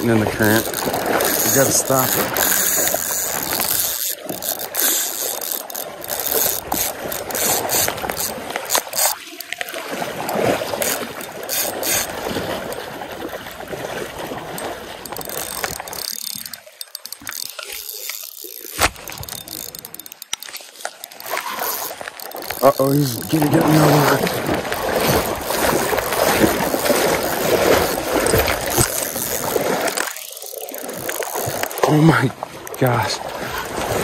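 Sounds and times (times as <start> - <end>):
fishing reel drag clicking: 0.0 - 32.8.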